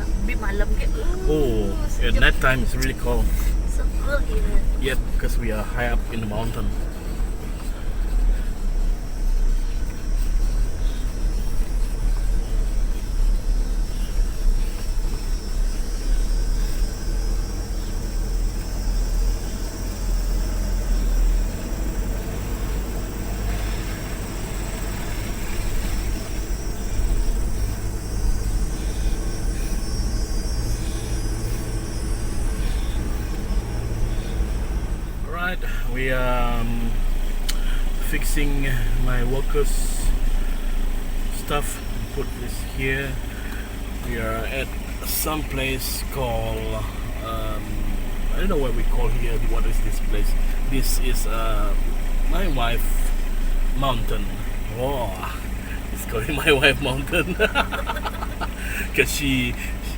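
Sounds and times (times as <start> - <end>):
rattle of rough road: 0.0 - 59.9
vehicle engine driving: 0.0 - 59.9.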